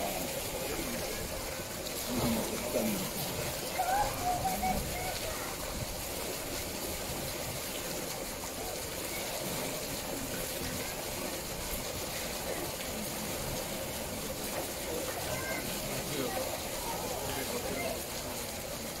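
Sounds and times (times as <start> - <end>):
faint voices: 0.0 - 19.0
water rushing and trickling: 0.0 - 19.0.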